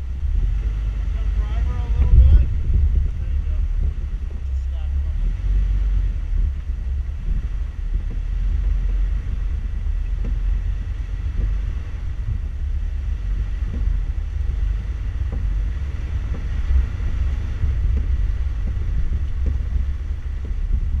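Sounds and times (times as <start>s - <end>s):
vehicle drivetrain and tyres rumbling: 0.0s - 21.0s
wind buffeting microphone: 0.0s - 21.0s.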